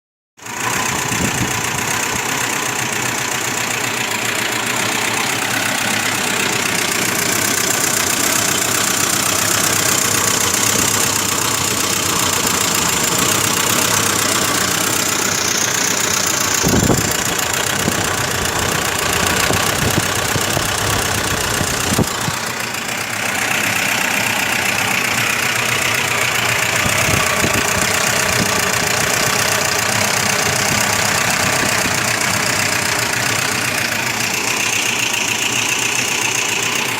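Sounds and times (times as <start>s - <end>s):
car engine idling unevenly: 0.4s - 36.9s.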